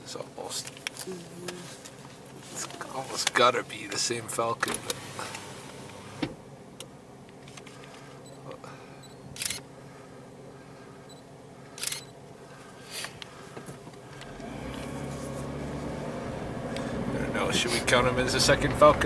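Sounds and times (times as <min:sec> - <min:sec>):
low vehicle hum: 0:00.0 - 0:19.0.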